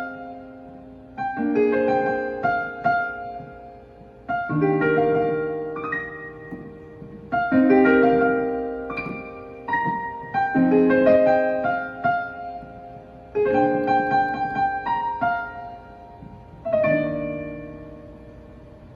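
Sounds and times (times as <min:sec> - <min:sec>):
slow solo piano: 0:00.0 - 0:18.9.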